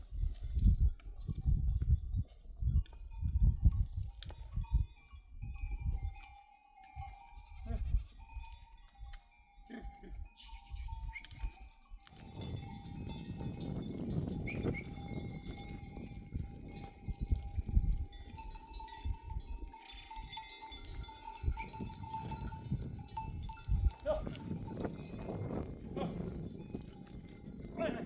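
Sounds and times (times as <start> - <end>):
sheep bells clanking: 1.0 - 28.0.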